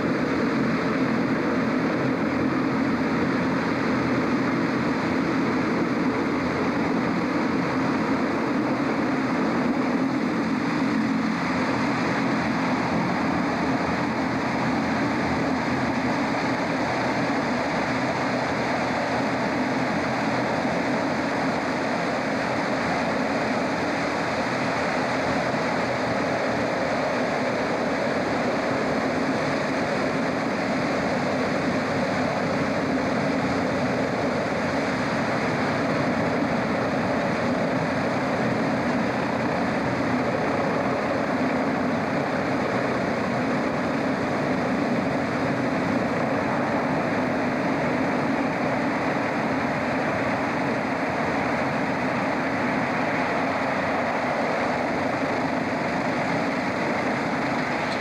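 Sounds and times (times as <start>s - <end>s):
hovercraft propeller roar: 0.0s - 58.0s.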